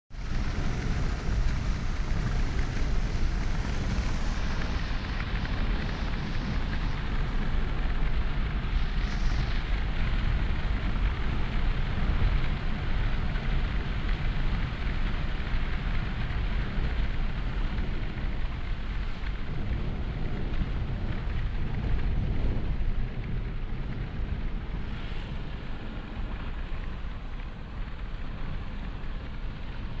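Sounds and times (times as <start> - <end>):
road and wind noise inside car: 0.1 - 30.0.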